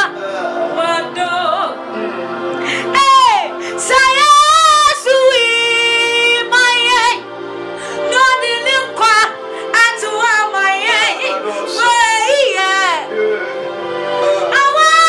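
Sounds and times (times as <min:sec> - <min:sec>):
woman singing gospel song: 0:00.0 - 0:01.8, 0:02.6 - 0:07.2, 0:08.1 - 0:13.1, 0:14.2 - 0:15.0
held backing chords: 0:00.0 - 0:15.0.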